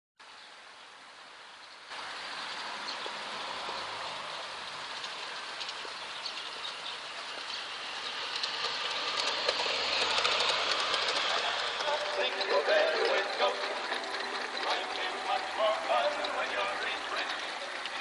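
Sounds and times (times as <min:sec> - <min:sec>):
model train wheels rumbling: 0:01.1 - 0:18.0.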